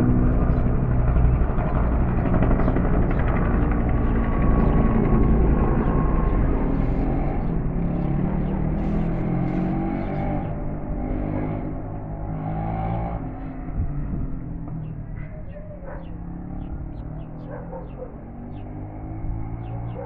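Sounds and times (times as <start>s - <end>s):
engine running low rumble: 0.0s - 20.0s.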